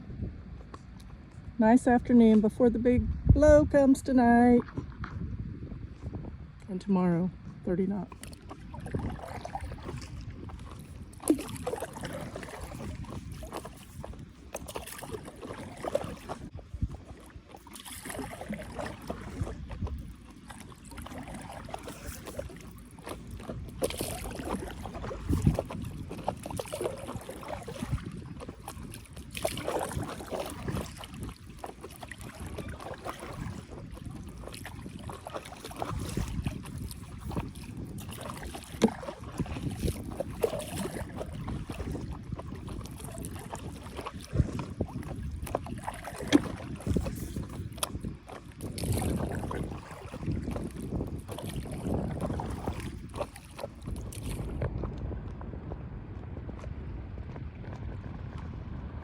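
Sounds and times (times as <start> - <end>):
water splashing and lapping: 0.0 - 59.0
paddle strokes in water: 7.4 - 59.0.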